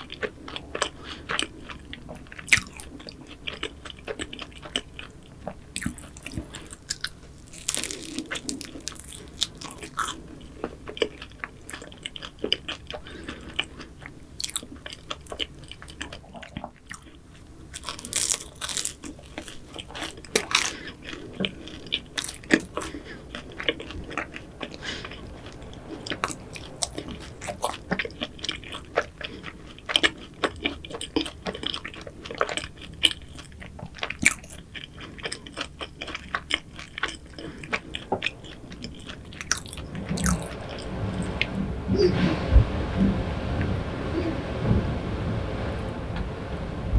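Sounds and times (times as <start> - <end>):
person chewing crunchy pastry: 0.0 - 41.5.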